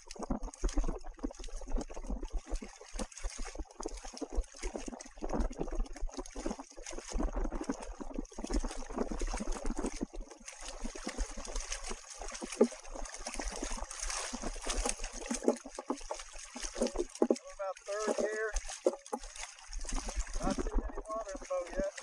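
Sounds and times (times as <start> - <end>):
paddle wheels splashing water: 0.0 - 22.0.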